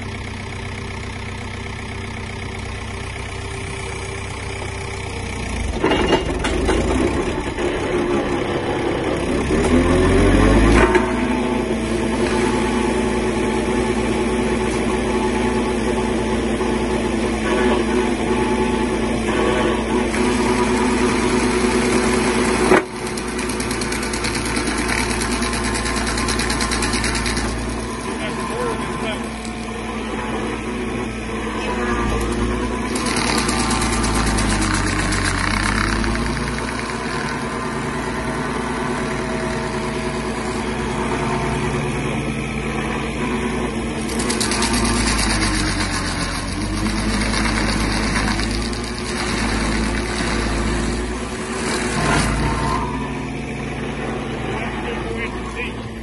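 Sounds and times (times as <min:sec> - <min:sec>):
heavy equipment engine idling: 0:00.0 - 0:56.0.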